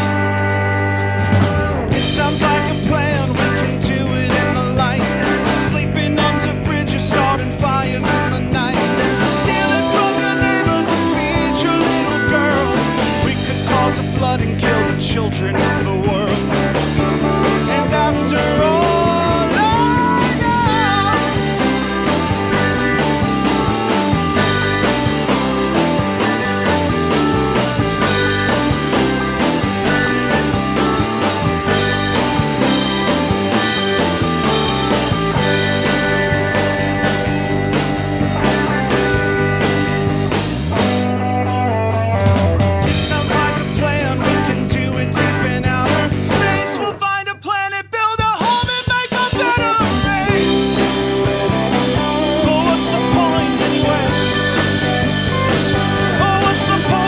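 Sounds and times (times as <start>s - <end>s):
drum kit beat: 0.0s - 41.2s, 42.0s - 47.2s, 48.0s - 57.0s
distorted electric guitars: 0.0s - 57.0s.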